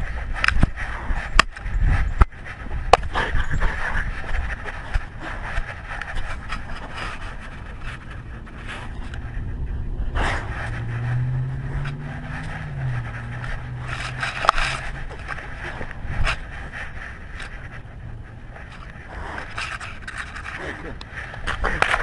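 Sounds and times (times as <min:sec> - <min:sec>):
scattered clicks: 0:00.0 - 0:09.4, 0:11.7 - 0:22.0
camera scraping and rubbing: 0:00.0 - 0:22.0
low hum: 0:00.0 - 0:22.0.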